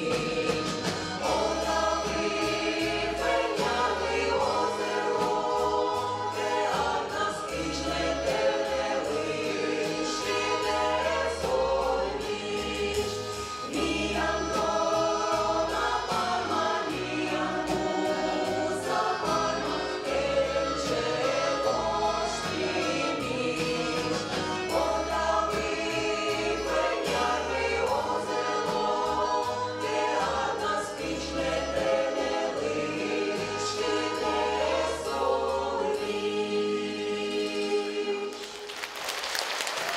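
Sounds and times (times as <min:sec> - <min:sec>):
drum kit beat: 0:00.0 - 0:37.5
bass line: 0:00.0 - 0:37.7
keyboard: 0:00.0 - 0:39.3
chorus singing folk song: 0:00.0 - 0:39.9.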